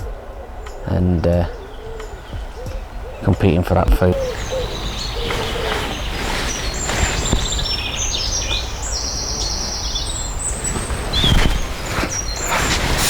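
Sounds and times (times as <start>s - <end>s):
songbirds singing and trilling: 0.0s - 13.0s.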